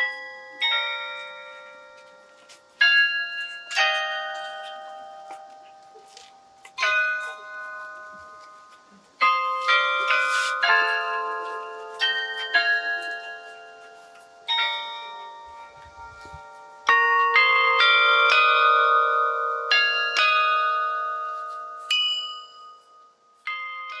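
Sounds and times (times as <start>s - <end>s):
church bells playing melody: 0.0s - 24.0s.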